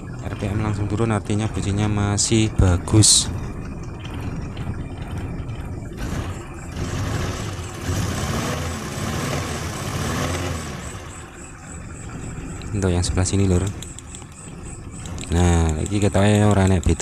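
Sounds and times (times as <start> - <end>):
engine idling roughly: 0.0 - 17.0.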